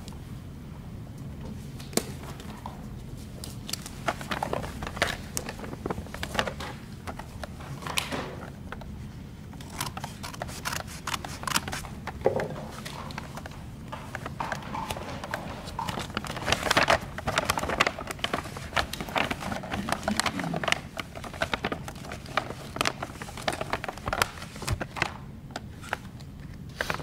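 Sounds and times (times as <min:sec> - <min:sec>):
low room hum: 0:00.0 - 0:27.0
paper envelope rustling: 0:03.2 - 0:27.0.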